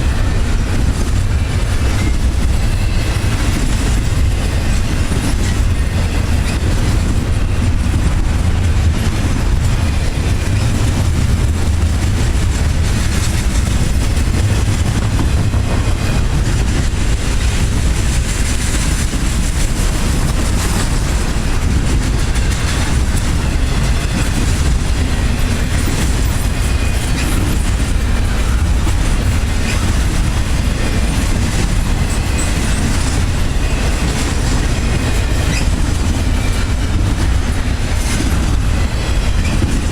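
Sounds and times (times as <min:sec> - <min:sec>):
train rumbling on rails: 0:00.0 - 0:39.9
train wheel clicks: 0:00.2 - 0:39.9.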